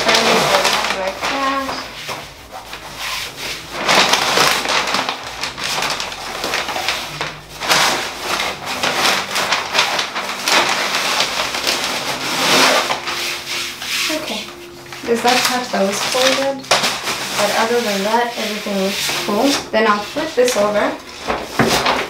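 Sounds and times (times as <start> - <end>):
vinyl paper crinkling and rustling: 0.0 - 22.0.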